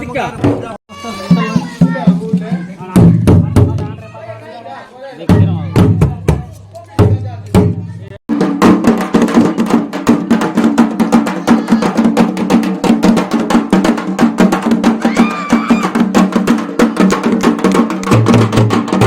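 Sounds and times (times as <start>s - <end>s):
fast drumming: 0.4s - 4.0s, 5.3s - 19.0s.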